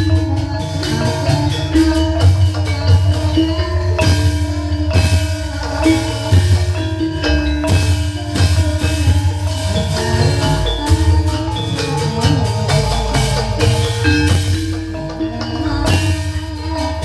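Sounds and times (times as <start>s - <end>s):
pulsing drum beat: 0.0s - 17.0s
ringing metal mallet instruments: 0.0s - 17.0s.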